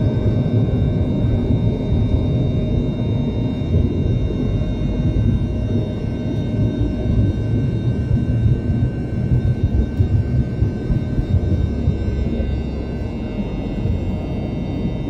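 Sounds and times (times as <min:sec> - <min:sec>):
jet engine and wheel rumble: 0:00.0 - 0:15.0
jet engine whine: 0:00.0 - 0:15.0.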